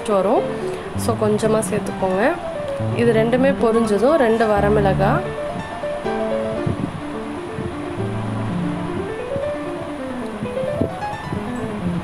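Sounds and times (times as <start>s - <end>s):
plucked-string music: 0.0s - 12.0s.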